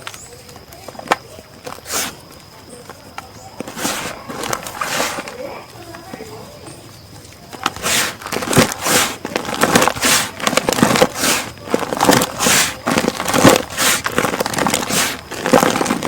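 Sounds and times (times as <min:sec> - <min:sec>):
cement chunks crunching: 0:00.0 - 0:16.0.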